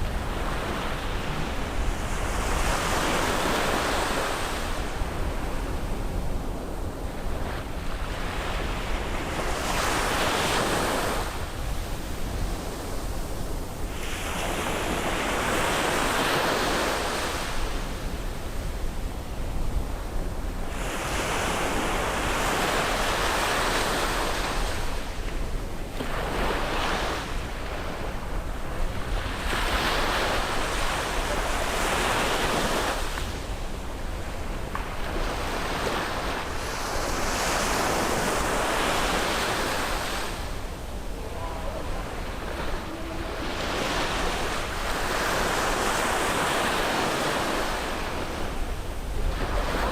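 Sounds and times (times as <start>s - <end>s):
sea waves breaking on beach: 0.0s - 18.4s, 20.0s - 49.9s.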